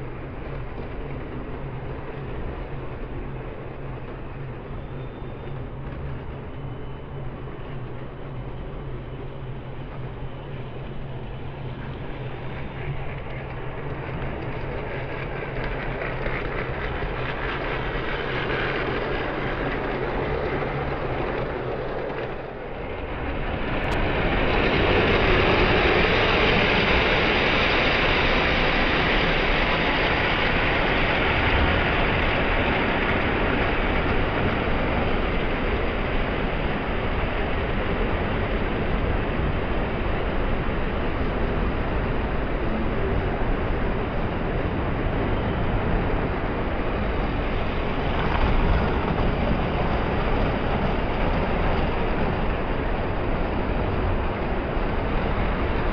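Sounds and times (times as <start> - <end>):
hum of busy hall: 0.0 - 55.9
model train rumbling and clattering: 0.0 - 55.9.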